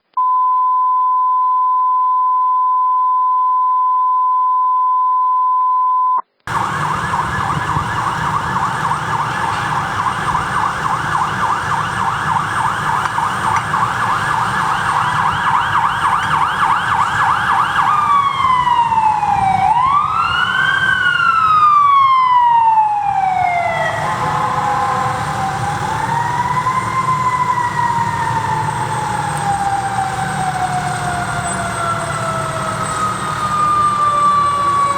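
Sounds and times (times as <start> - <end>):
fire engine siren: 6.5 - 34.9
truck engine rumble: 6.5 - 34.9.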